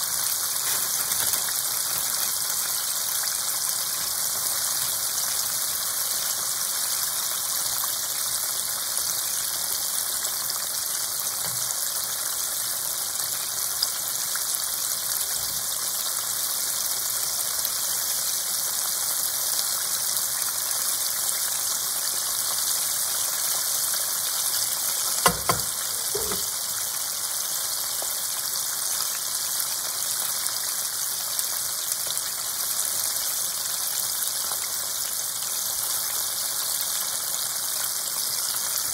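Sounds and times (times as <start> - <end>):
oil bubbling and sizzling: 0.0 - 38.9.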